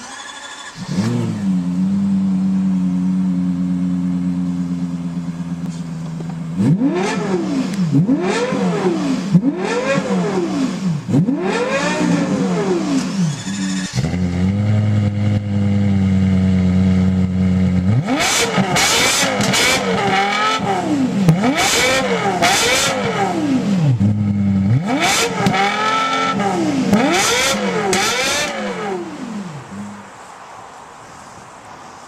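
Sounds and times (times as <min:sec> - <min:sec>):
car engine idling and revving: 0:00.0 - 0:30.4.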